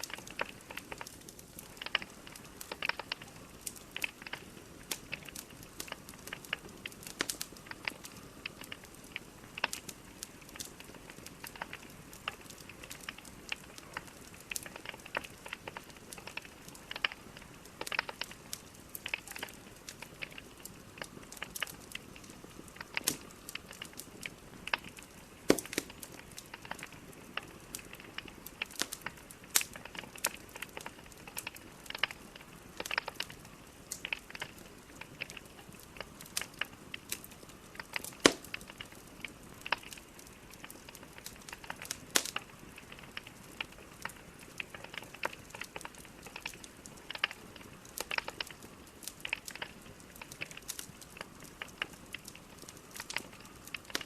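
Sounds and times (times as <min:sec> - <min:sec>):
faint steady hiss: 0:00.0 - 0:54.0
wood fire crackling: 0:00.0 - 0:54.0.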